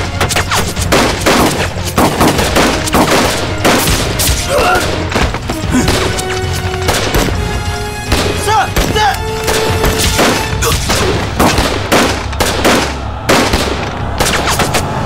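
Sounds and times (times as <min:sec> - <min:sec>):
gunshots: 0:00.0 - 0:07.5, 0:08.1 - 0:15.0
dramatic background music: 0:00.0 - 0:15.0.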